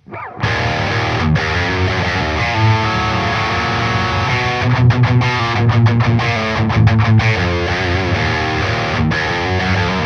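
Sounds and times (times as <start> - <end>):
distorted electric guitar: 0.0 - 10.0.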